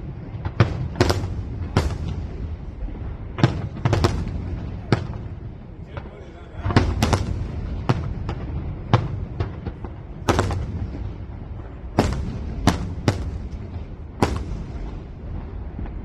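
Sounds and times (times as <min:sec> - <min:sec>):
fireworks bangs: 0:00.0 - 0:16.0
low rumble: 0:00.0 - 0:16.0.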